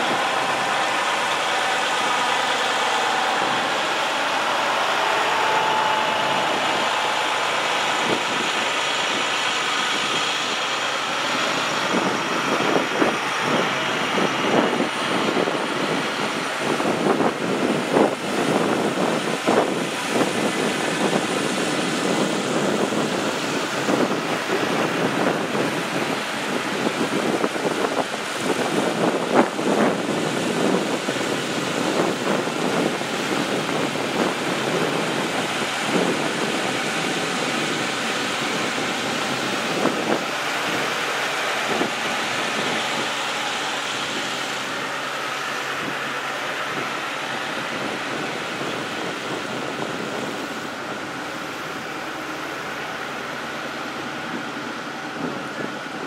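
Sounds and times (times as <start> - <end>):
vehicle engines and tyres: 0.0 - 56.0.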